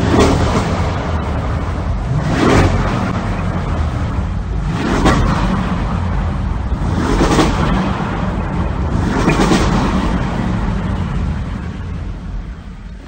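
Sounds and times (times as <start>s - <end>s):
car engine revving: 0.0s - 13.0s
engine low rumble: 0.0s - 13.0s.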